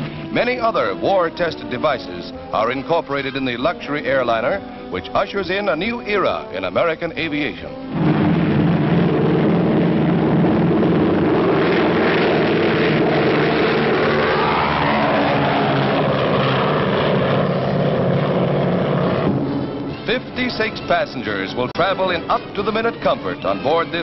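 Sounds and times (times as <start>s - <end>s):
propeller airliner engines running: 0.0s - 24.0s.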